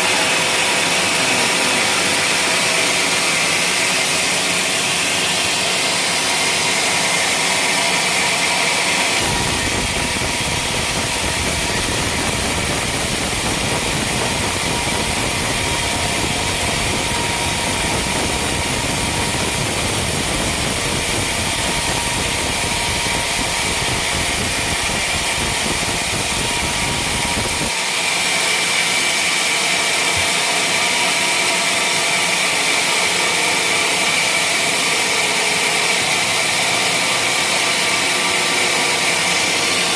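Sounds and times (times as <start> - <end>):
sawmill machine running: 0.0 - 39.9.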